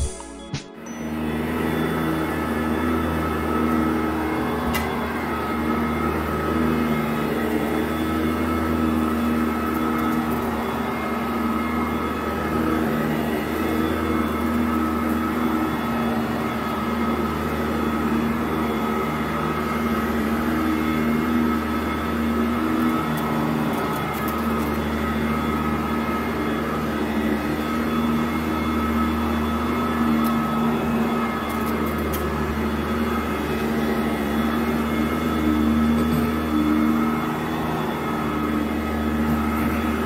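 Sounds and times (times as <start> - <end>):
upright vacuum running over carpet: 0.8 - 40.0.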